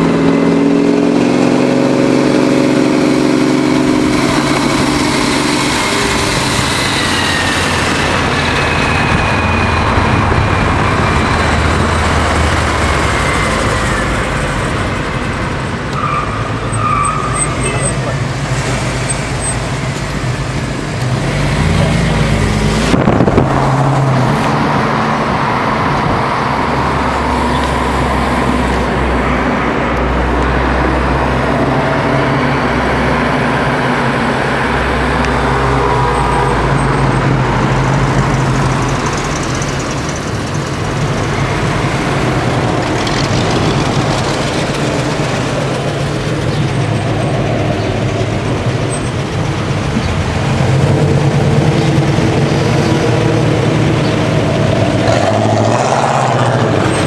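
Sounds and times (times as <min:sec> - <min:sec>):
car engines droning: 0:00.0 - 0:57.0
road and wind noise: 0:00.0 - 0:57.0.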